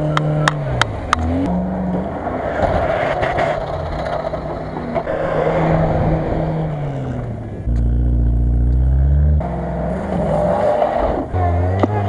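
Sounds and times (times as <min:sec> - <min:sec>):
car engines revving under load: 0:00.0 - 0:12.0.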